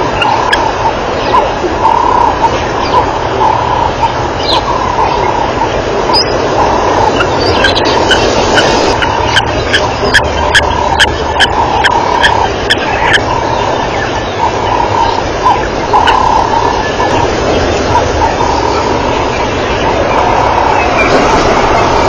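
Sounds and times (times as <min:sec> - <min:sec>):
birds chirping: 0:00.0 - 0:22.0
steady rushing noise: 0:00.0 - 0:22.0.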